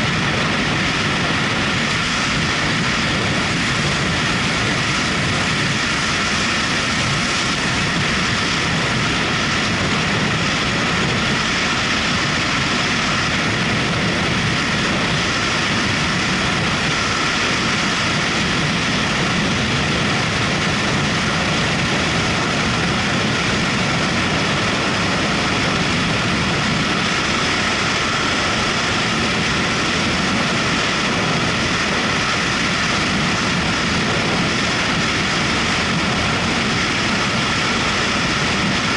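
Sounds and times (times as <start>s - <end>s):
motorcycle engine and road noise: 0.0s - 38.9s
wind rushing over microphone: 0.0s - 38.9s.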